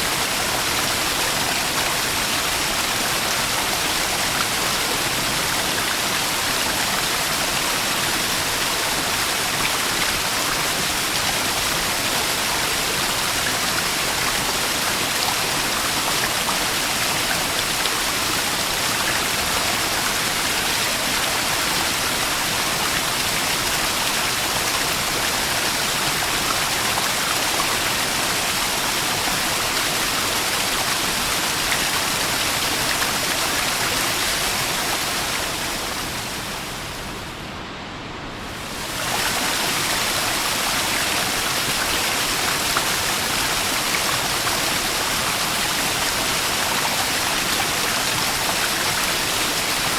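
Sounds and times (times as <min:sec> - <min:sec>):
small waterfall rushing: 0:00.0 - 0:49.9.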